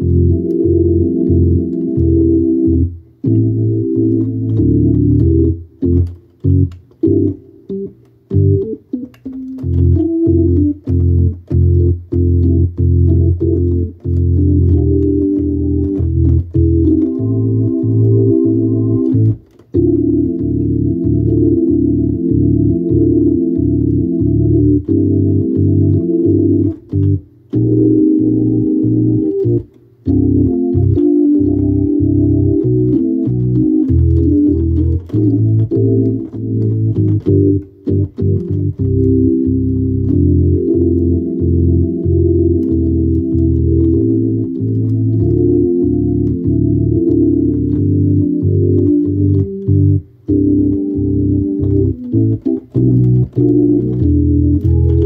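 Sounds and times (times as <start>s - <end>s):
organ playing chords: 0.0s - 55.0s.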